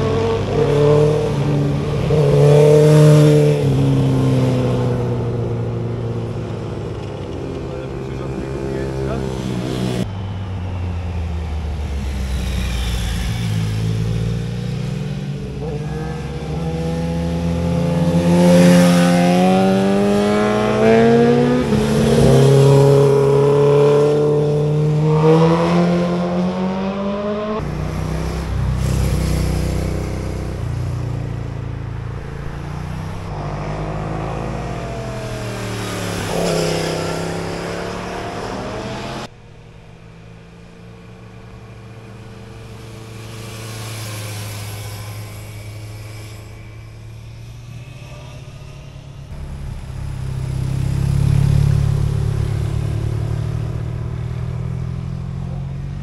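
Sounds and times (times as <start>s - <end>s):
motorcycle engines revving past: 0.0s - 56.0s.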